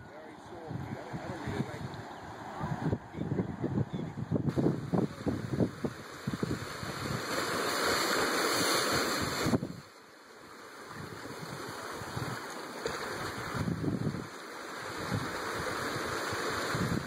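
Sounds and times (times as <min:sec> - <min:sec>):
surf washing over rocks: 0:00.0 - 0:03.6, 0:04.4 - 0:17.0
wind buffeting microphone: 0:00.0 - 0:07.6, 0:09.0 - 0:09.8, 0:10.9 - 0:17.0.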